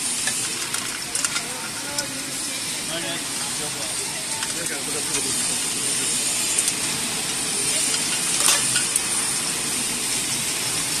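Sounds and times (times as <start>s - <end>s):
machine hiss: 0.0s - 11.0s.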